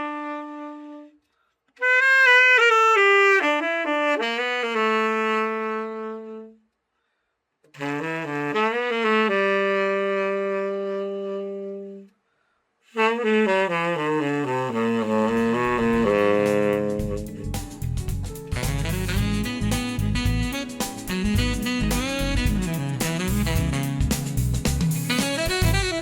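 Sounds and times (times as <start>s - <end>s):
tenor saxophone phrases: 0.0s - 1.2s, 1.8s - 6.6s, 7.7s - 12.1s, 12.9s - 17.6s, 18.5s - 24.1s, 25.1s - 26.0s.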